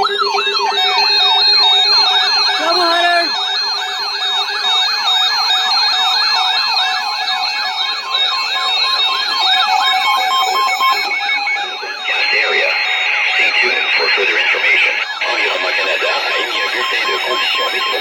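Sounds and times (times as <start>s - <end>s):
electronic siren yelping: 0.0s - 18.0s.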